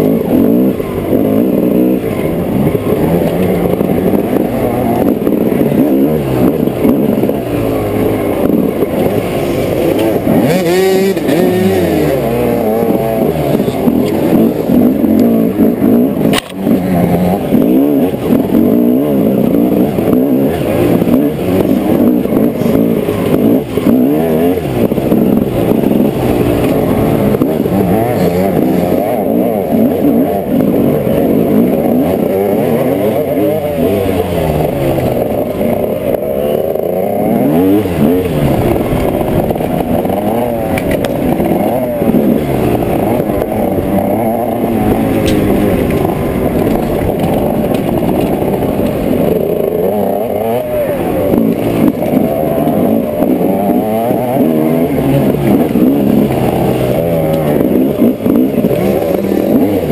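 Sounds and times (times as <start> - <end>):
dirt bike engine revving: 0.0 - 59.9
other dirt bikes revving: 0.0 - 59.9.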